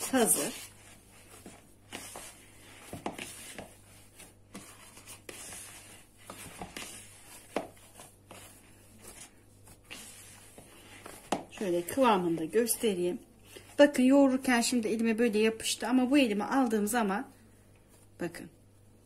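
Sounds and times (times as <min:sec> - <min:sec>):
hand squishing dough: 0:00.0 - 0:15.4.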